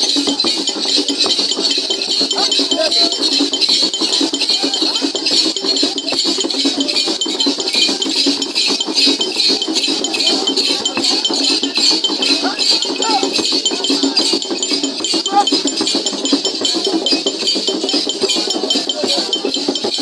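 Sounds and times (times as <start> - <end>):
rattles and metallic jingles: 0.0 - 20.0.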